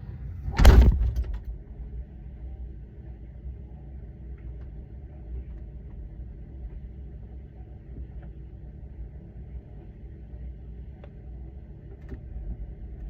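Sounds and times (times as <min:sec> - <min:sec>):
refrigerator hum: 0:00.0 - 0:13.0.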